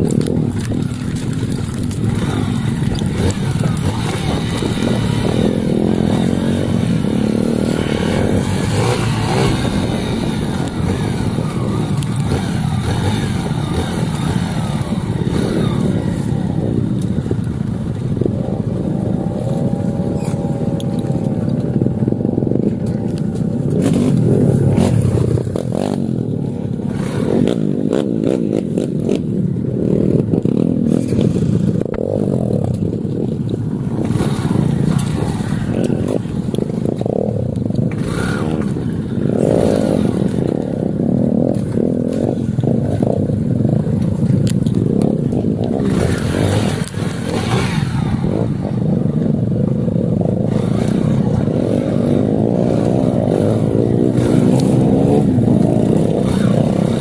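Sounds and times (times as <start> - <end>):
bike rattling over rough ground: 0.0 - 57.0
dirt bike engine running: 0.0 - 57.0.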